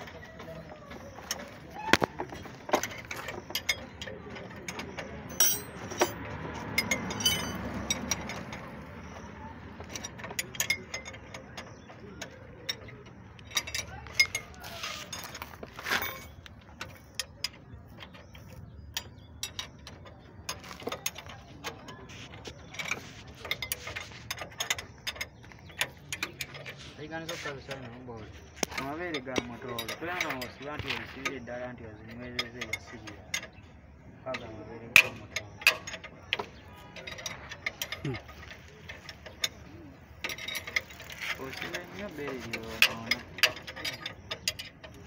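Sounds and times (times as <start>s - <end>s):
metal spanner clinking: 0.0s - 22.0s, 22.6s - 45.0s.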